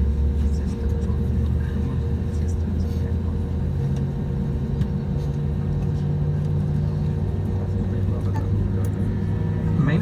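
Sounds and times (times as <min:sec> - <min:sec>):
airliner cabin drone: 0:00.0 - 0:10.0
constant low hum: 0:00.0 - 0:10.0.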